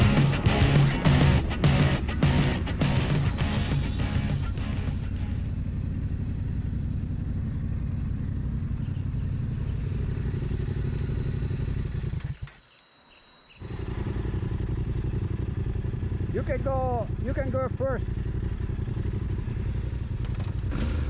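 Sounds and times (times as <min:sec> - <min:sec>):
motorcycle engine idling: 0:00.0 - 0:12.5, 0:13.6 - 0:21.0.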